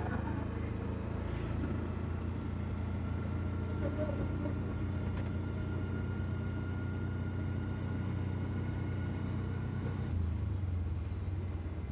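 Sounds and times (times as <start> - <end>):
auto-rickshaw engine rumbling: 0.0 - 11.9.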